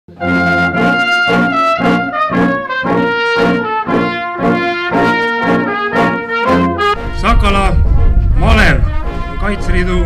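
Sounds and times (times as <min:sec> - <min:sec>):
brass band music: 0:00.1 - 0:10.0.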